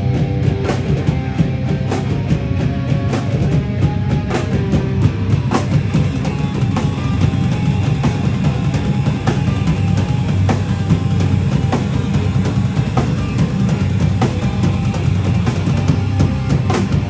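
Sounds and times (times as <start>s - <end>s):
distorted guitars and bass: 0.0s - 17.0s
drum and cymbal hits: 0.0s - 17.0s
heavy band playing loud: 0.0s - 17.0s.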